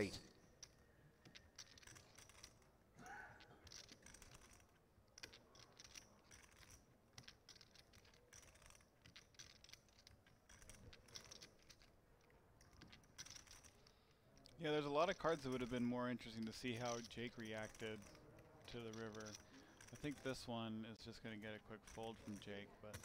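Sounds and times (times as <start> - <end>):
clay poker chips clacking: 0.3 - 23.0.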